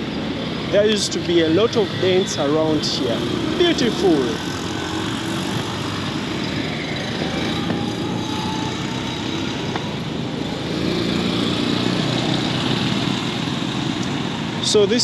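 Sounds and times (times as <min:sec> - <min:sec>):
street noise: 0:00.0 - 0:15.0
vehicle engines running: 0:00.0 - 0:15.0.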